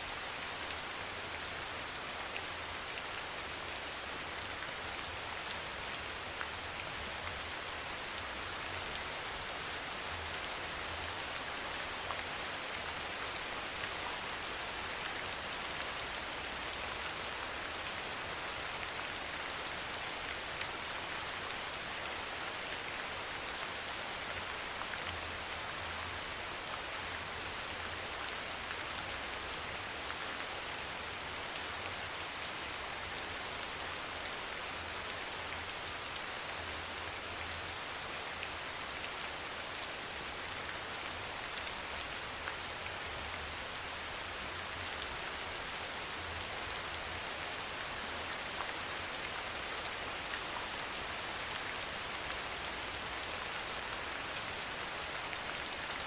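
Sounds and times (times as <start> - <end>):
soft rain falling: 0.0 - 56.0.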